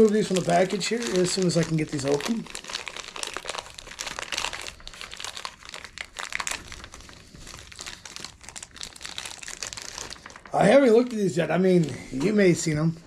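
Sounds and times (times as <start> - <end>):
packaging crinkling: 0.0 - 11.4.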